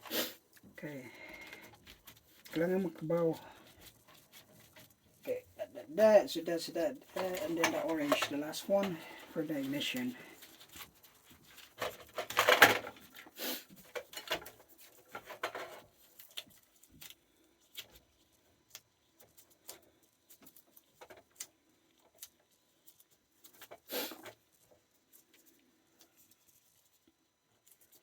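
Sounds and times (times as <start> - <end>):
wires and tools handled: 0.0 - 28.0.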